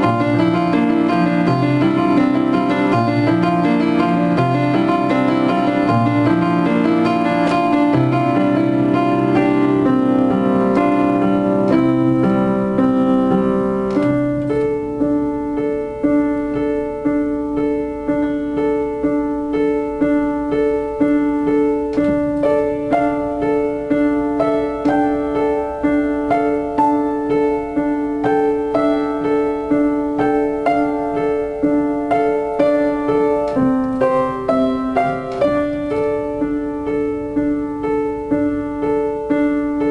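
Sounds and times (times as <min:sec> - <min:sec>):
solo piano piece: 0:00.0 - 0:39.9.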